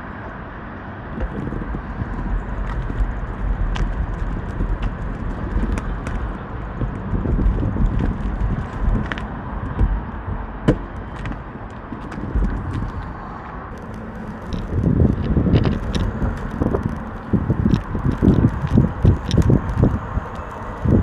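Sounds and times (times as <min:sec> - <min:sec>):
wind rushing over microphone: 0:00.0 - 0:21.0
bicycle tyre noise: 0:01.1 - 0:21.0
small clicks and rattles: 0:01.2 - 0:09.9, 0:11.0 - 0:21.0.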